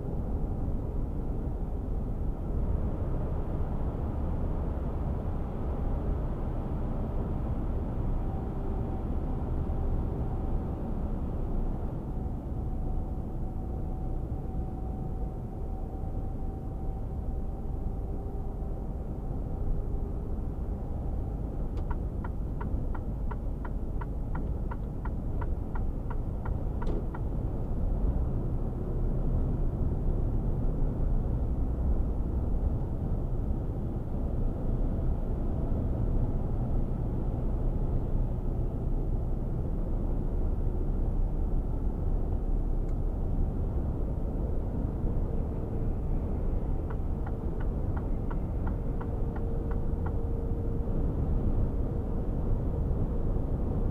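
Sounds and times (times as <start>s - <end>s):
truck engine and tyres rumbling: 0.0s - 53.9s.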